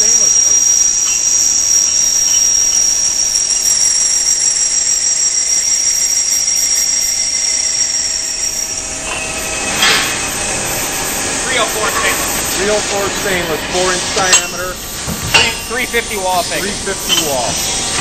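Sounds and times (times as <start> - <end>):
high-pitched machine whine: 0.0 - 18.0
lathe machine noise: 0.0 - 18.0.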